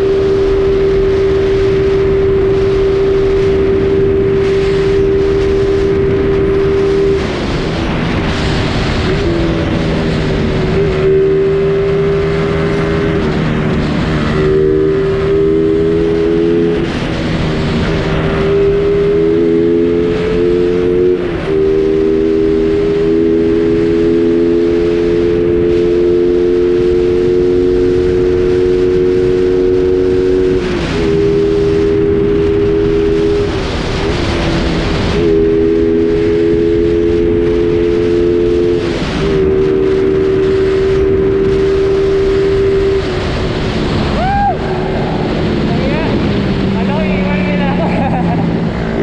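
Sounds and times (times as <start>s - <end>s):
motorcycle engine cruising: 0.0s - 49.0s
wind and road noise: 0.0s - 49.0s.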